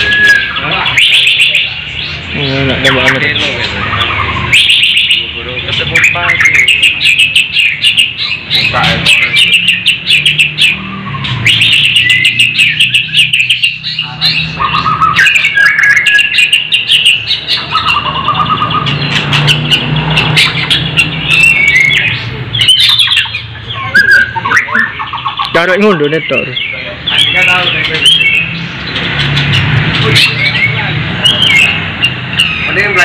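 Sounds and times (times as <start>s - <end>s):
songbird chirps trills and whistles: 0.0s - 33.0s.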